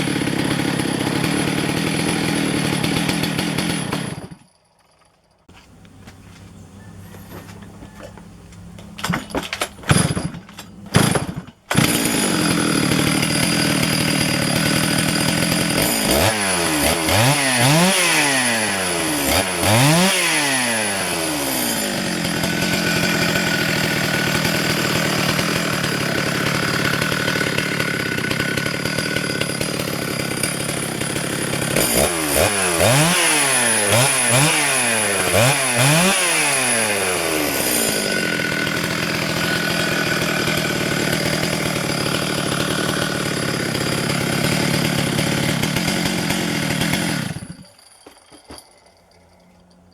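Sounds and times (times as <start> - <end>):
chainsaw running and revving: 0.0 - 4.5, 10.9 - 47.8.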